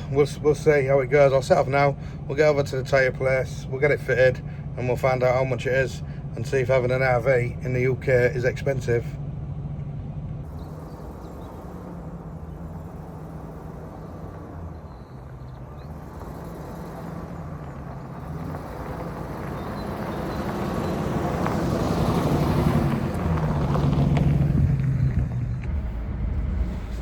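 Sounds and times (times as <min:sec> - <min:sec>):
motorhome engine humming: 0:00.0 - 0:27.0.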